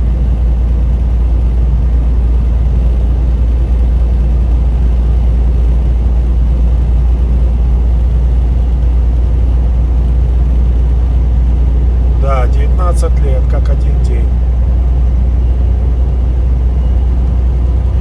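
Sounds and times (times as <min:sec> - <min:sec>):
road noise: 0:00.0 - 0:18.0
truck engine drone from cab: 0:00.0 - 0:18.0.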